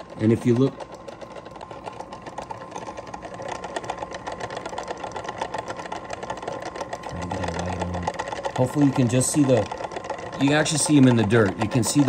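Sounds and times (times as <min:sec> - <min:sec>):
bottle rattling on rollers: 0:00.0 - 0:12.0
motor hum: 0:00.0 - 0:12.0.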